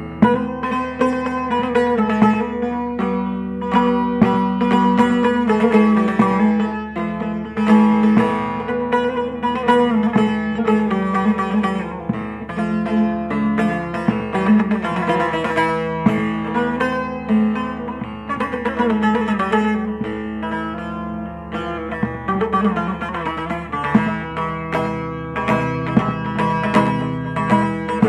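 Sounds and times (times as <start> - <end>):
plucked string instrument melody: 0.0 - 28.0.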